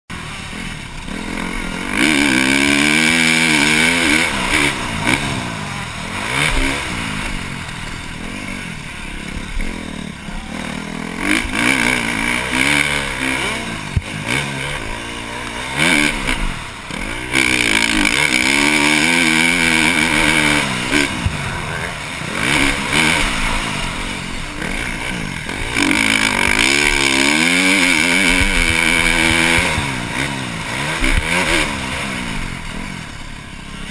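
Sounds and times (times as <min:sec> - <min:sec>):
motocross engine revving: 0:00.1 - 0:33.9.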